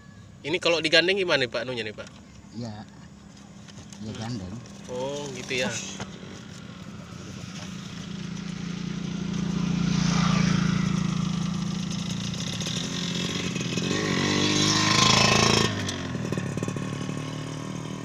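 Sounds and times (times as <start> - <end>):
motorcycle engine passing by: 3.2 - 18.0.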